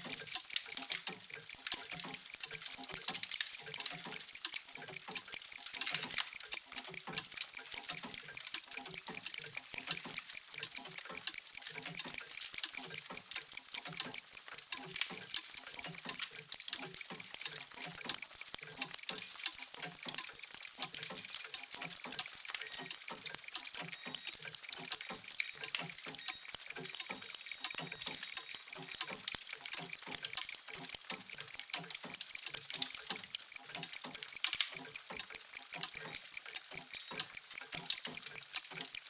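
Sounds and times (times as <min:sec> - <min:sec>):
many clocks ticking: 0:00.0 - 0:39.0.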